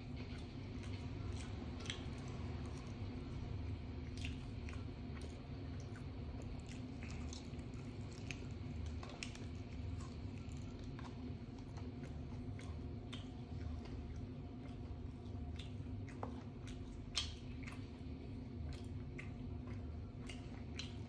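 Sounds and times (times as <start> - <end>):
person chewing food: 0.0 - 21.0
steady low hum: 0.0 - 21.0.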